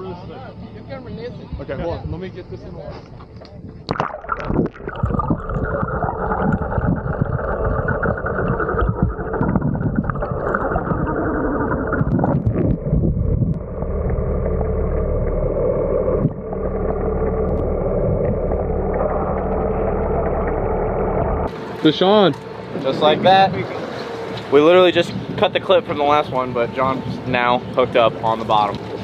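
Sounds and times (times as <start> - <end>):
engine hum through water: 2.3 - 29.0
muffled underwater rushing water: 3.7 - 29.0.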